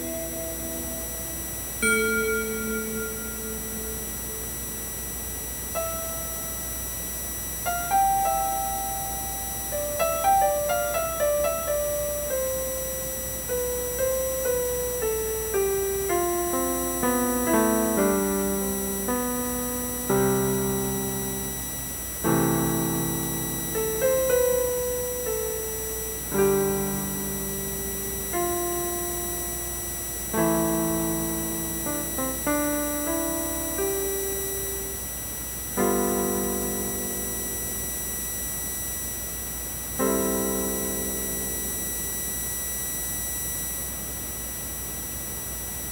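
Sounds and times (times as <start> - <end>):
keyboard piano melody and chords: 0.0 - 45.9.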